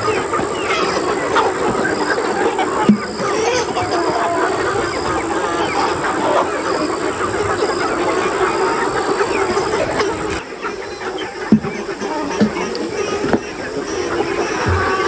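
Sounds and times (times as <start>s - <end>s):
flock of poultry calling: 0.0s - 15.0s.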